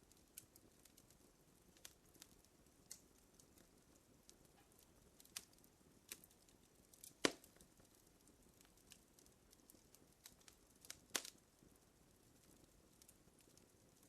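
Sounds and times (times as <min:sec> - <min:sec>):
fire crackling: 0:00.0 - 0:14.0
low hiss: 0:00.0 - 0:14.0.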